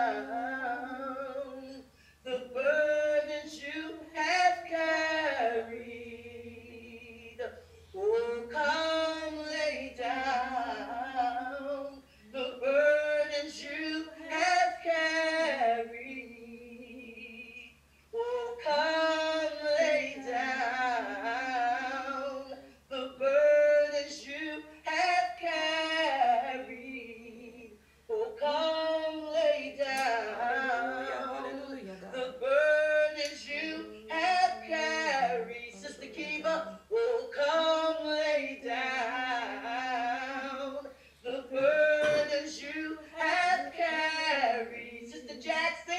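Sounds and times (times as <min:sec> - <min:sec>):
faint low hum: 0:00.0 - 0:45.9
woman singing a hymn: 0:00.0 - 0:45.9.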